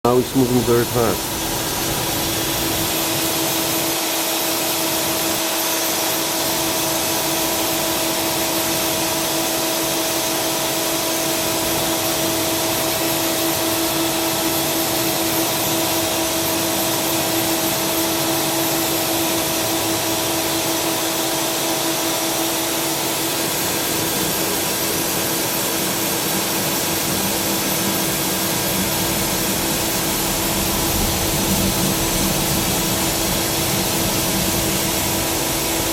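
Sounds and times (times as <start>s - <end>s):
lathe hiss: 0.0s - 35.9s
lathe whine: 0.0s - 35.9s.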